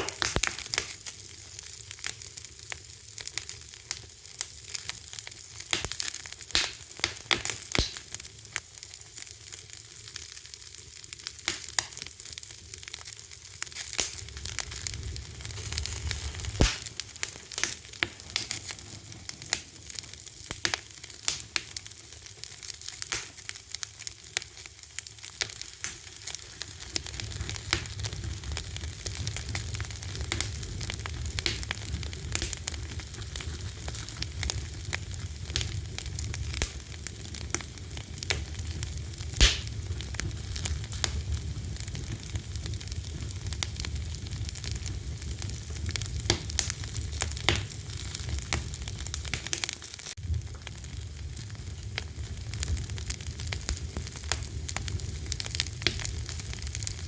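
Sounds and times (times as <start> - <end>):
low rumble of burning: 0.0 - 57.0
wood fire crackling: 0.0 - 57.0.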